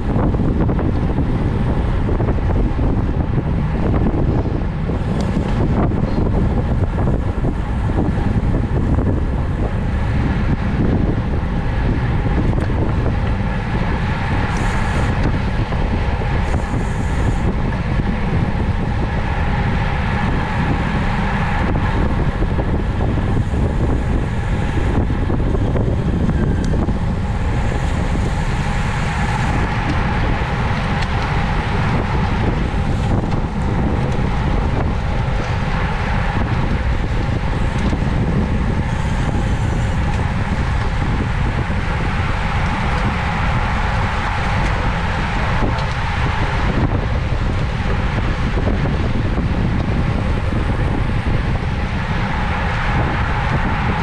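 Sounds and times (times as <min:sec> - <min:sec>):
bike road and drivetrain noise: 0:00.0 - 0:54.0
wind buffeting microphone: 0:00.0 - 0:54.0.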